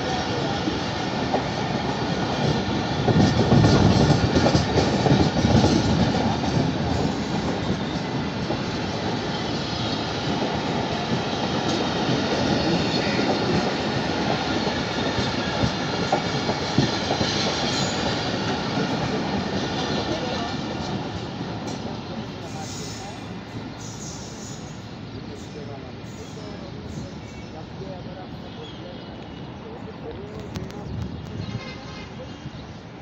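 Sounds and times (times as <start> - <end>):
train wheels rumbling and clattering: 0.0 - 28.3.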